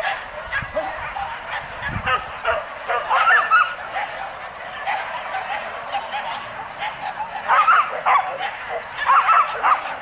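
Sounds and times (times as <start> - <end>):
high wavering dog yelp: 0.0 - 4.2, 4.8 - 10.0
dogs barking and yelping: 0.0 - 10.0.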